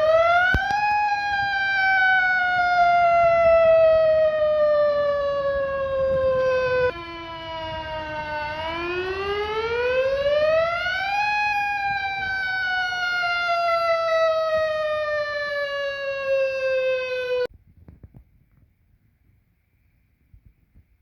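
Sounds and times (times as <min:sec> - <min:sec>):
fire engine siren wailing: 0:00.0 - 0:17.5.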